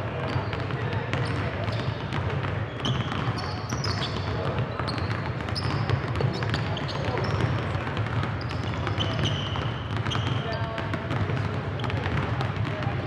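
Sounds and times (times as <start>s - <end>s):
basketballs bouncing on hardwood: 0.1s - 13.0s
sneakers squeaking on court: 0.1s - 13.0s.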